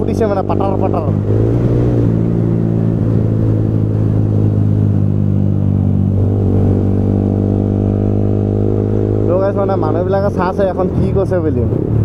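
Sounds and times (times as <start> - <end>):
motorcycle exhaust drone: 0.0 - 10.9.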